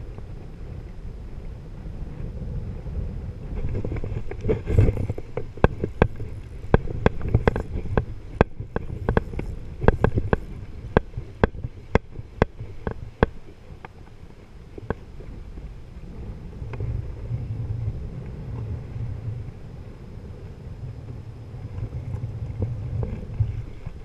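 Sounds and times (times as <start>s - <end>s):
water lapping: 0.0s - 24.0s
wind: 0.0s - 24.0s.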